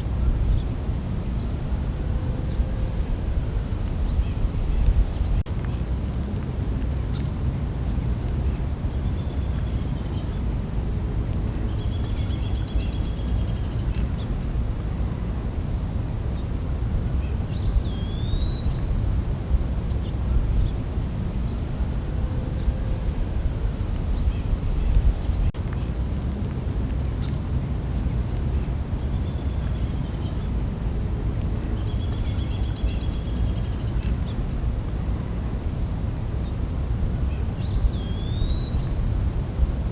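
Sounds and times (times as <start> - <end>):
high insect drone: 0.0 - 39.9
insects chirping: 0.0 - 39.9.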